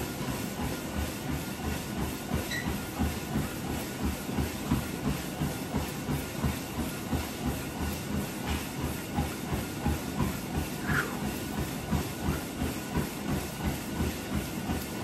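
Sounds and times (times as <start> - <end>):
feet thudding on treadmill belt: 0.0 - 15.0
treadmill motor whir: 0.0 - 15.0.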